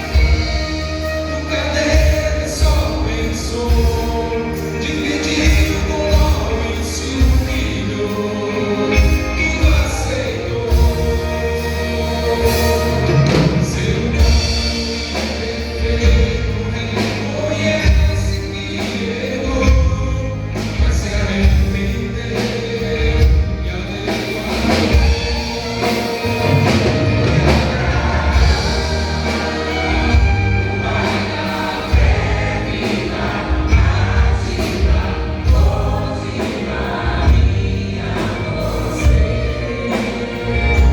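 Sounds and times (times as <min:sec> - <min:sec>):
band accompaniment with steady beat: 0:00.0 - 0:40.9
group singing gospel: 0:00.0 - 0:40.9.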